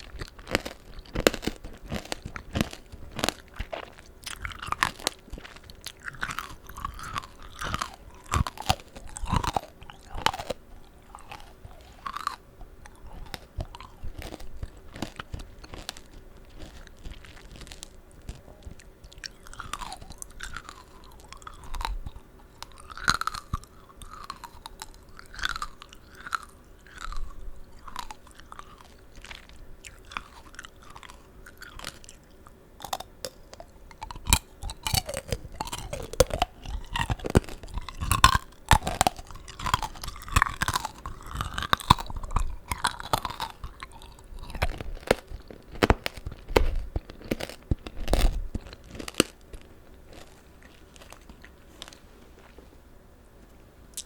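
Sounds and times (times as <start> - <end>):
crunching candy shell: 0.0 - 52.0
wet juicy chewing: 0.0 - 52.6.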